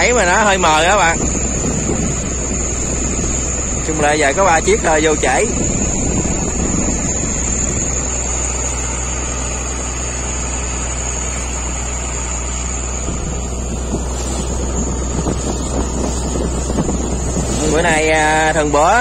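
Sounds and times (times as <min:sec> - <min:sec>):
boat engine droning: 0:00.0 - 0:19.0
high whine: 0:00.0 - 0:19.0
water and wind rushing: 0:00.0 - 0:19.0.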